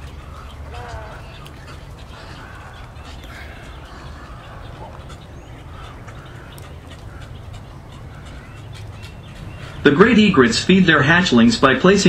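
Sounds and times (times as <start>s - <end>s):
wading birds calling: 0.0s - 12.0s.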